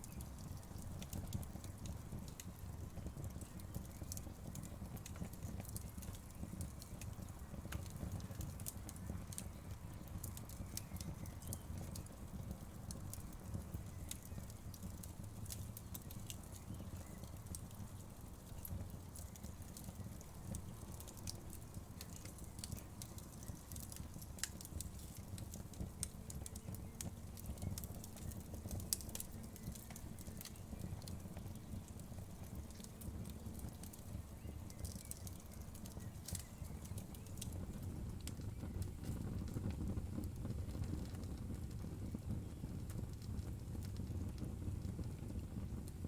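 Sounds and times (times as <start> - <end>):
sharp pops and snaps: 0.0 - 42.3
wood fire crackling: 0.0 - 46.0.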